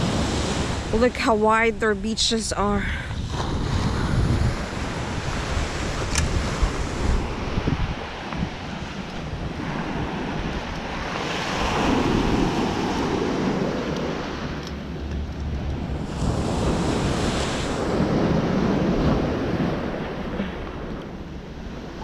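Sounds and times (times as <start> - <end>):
ocean surf breaking on beach: 0.0 - 1.5, 3.1 - 22.0
wind buffeting microphone: 0.0 - 22.0.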